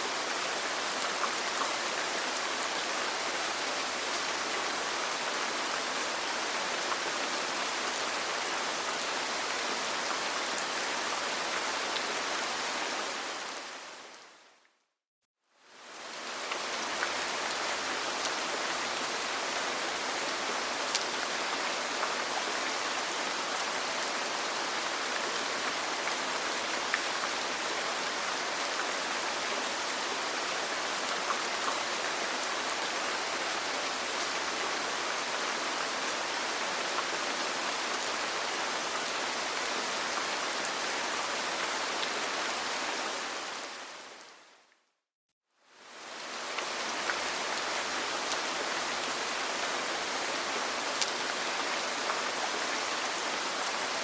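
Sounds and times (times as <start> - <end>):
rain on a roof: 0.0 - 14.6, 15.5 - 44.7, 45.6 - 54.0.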